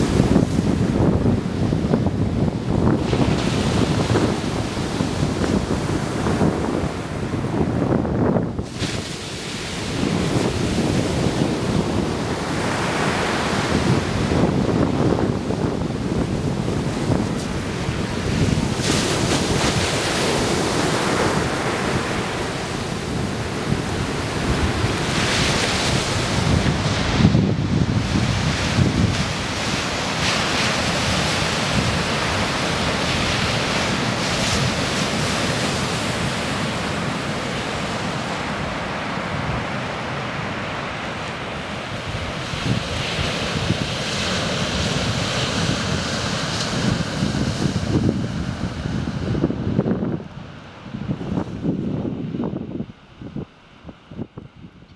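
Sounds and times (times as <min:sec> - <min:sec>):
surf breaking on beach: 0:00.0 - 0:52.2
wind on microphone: 0:00.0 - 0:54.9.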